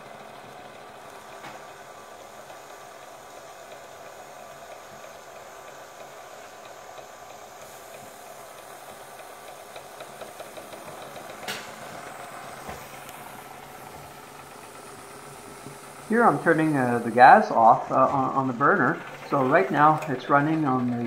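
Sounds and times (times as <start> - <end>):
steam engine hissing and ticking: 0.0 - 21.0.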